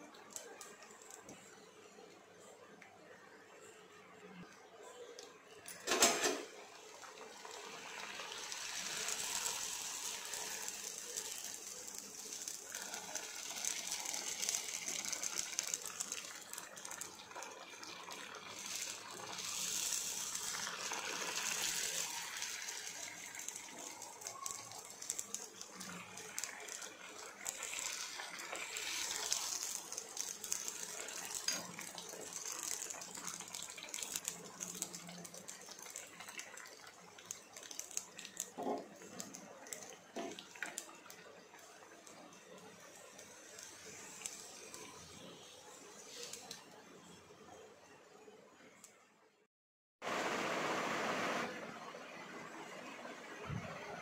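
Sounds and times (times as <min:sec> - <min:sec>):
dough deep-frying in hot oil: 0:00.0 - 0:54.0.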